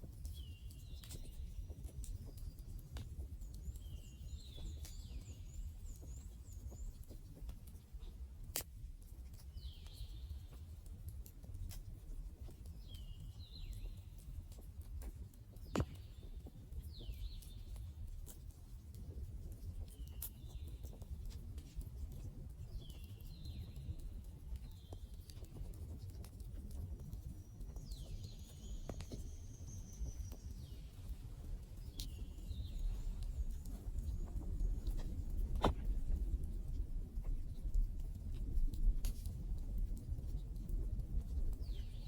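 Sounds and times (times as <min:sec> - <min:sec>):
campfire crackling and popping: 0:06.7 - 0:10.0, 0:10.6 - 0:42.0.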